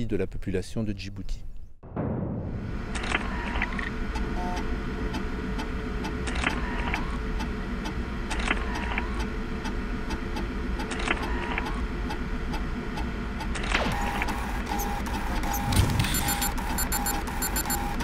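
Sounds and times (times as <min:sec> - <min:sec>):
low mechanical drone: 0:01.6 - 0:18.0.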